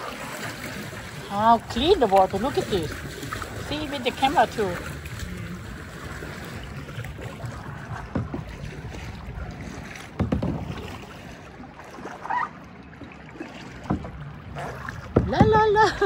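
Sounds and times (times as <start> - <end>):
paddle strokes splashing water: 0.0 - 16.0.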